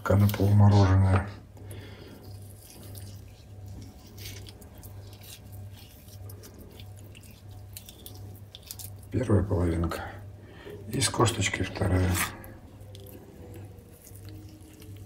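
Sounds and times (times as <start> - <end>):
low steady hum: 0.0 - 15.0
wet squishing of fish: 0.0 - 15.0.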